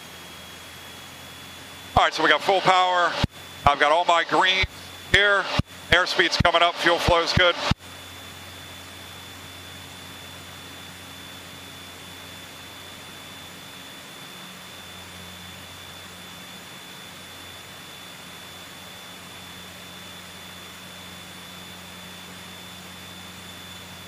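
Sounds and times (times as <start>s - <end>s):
aircraft engine drone with hiss: 0.0s - 24.0s
faint high whine: 0.0s - 24.0s.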